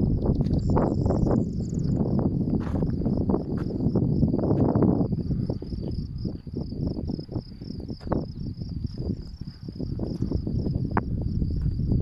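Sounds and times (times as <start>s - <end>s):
crickets chirping: 0.0s - 12.0s
low rustling with crunches: 0.0s - 12.0s.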